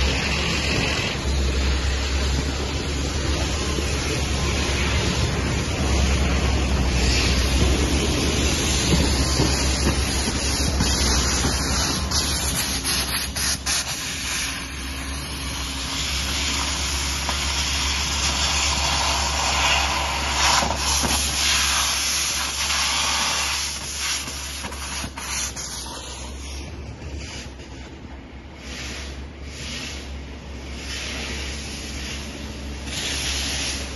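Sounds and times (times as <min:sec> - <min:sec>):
rushing hiss-like noise: 0:00.0 - 0:27.7, 0:28.6 - 0:33.9.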